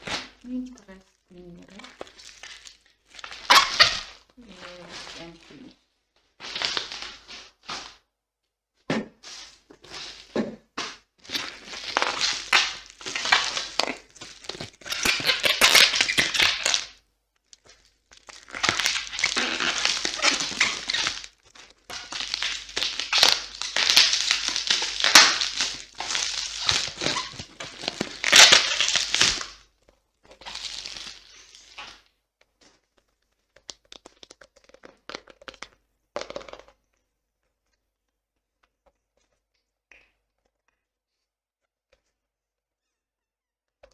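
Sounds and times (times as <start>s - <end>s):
bubble wrap crinkling: 0.0s - 8.0s, 9.2s - 41.3s.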